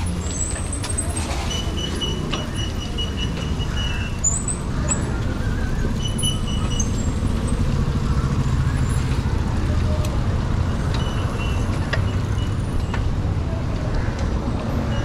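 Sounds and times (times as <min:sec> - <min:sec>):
bike tyre noise on road: 0:00.0 - 0:15.0.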